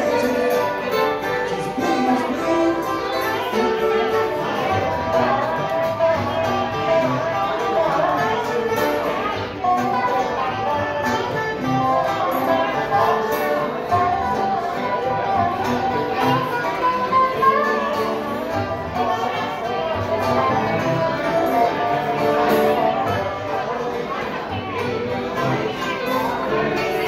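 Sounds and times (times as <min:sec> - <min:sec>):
acoustic guitars: 0:00.0 - 0:27.0
banjo: 0:00.0 - 0:27.0
fiddle: 0:00.0 - 0:27.0.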